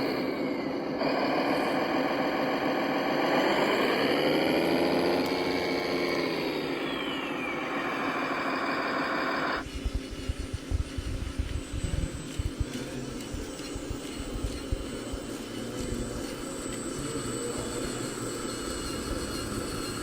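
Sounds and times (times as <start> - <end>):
falling whine: 0.0 - 20.0
model truck engine sound: 0.0 - 20.0.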